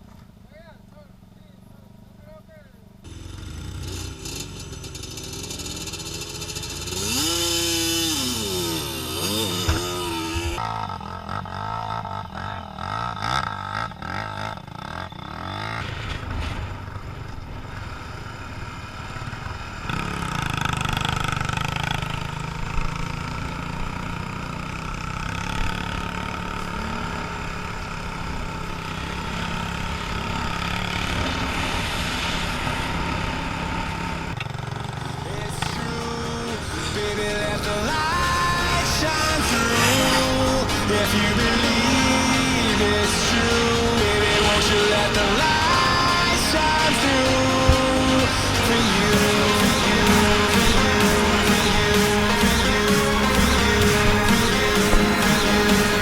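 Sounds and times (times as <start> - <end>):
motorcycle engines revving: 2.8 - 56.0.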